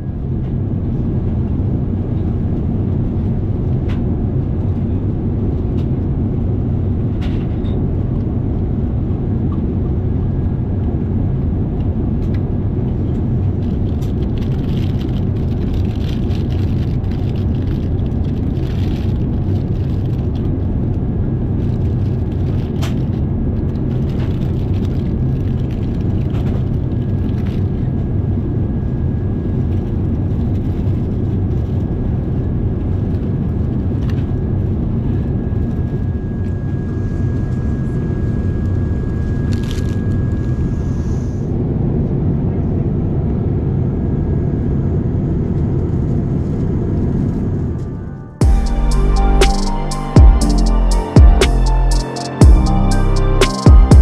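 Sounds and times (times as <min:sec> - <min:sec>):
airliner cabin rumble: 0:00.0 - 0:49.4.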